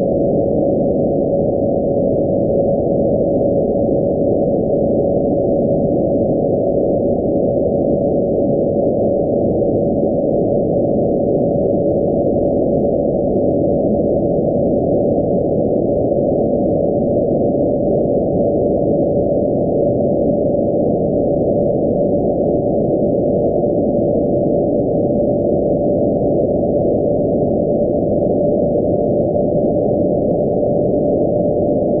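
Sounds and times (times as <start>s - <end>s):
steady whistle-like radio tone: 0.0s - 32.0s.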